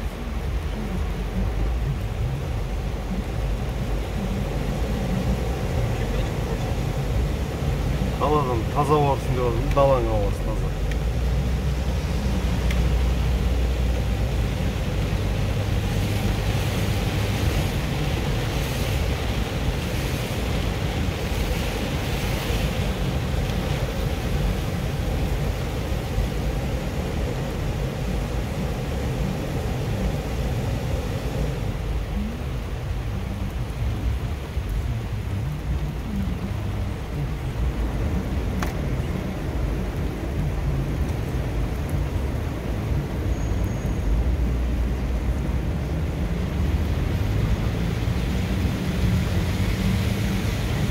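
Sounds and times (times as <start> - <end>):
car engine rumble: 0.0 - 43.2
rain on car: 0.0 - 50.9
tyres hissing on wet road: 0.0 - 50.9.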